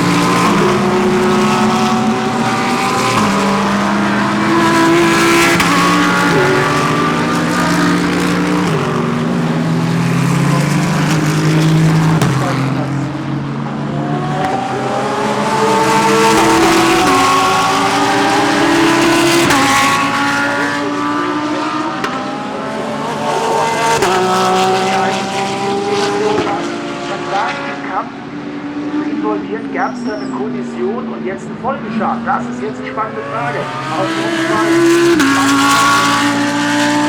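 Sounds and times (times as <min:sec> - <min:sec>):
race car engines shifting gears: 0:00.0 - 0:37.0.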